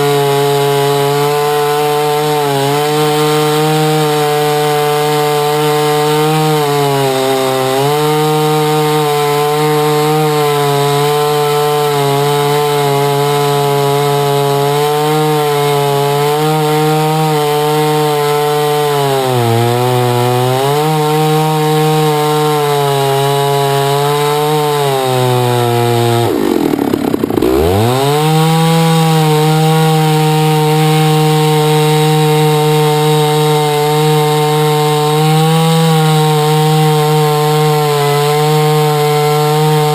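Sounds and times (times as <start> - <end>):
chainsaw ripping log: 0.0 - 39.9.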